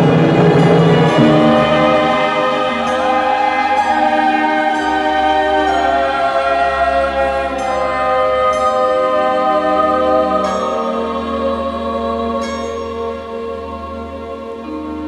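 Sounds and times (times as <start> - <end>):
slow sustained music chords: 0.0 - 15.0.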